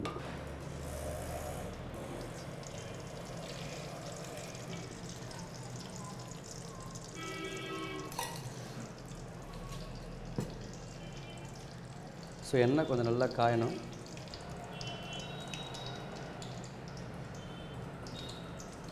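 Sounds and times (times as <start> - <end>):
oil trickling into metal pan: 1.6 - 18.9.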